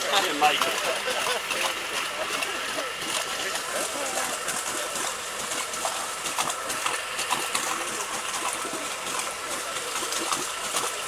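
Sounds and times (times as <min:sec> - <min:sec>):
muddy water splashing and trickling: 0:00.0 - 0:11.0.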